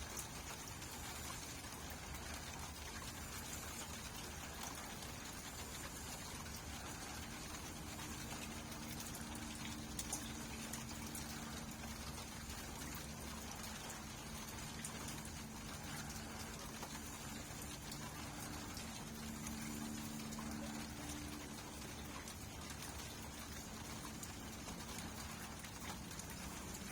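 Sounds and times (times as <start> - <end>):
steady rainfall: 0.0 - 26.9.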